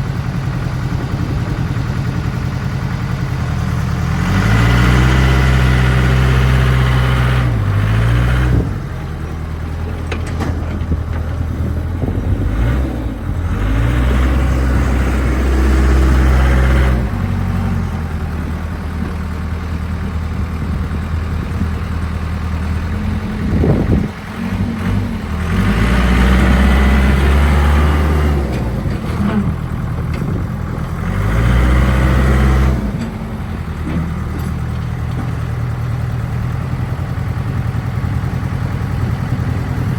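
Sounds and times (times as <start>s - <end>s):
diesel engine labouring: 0.0s - 39.9s.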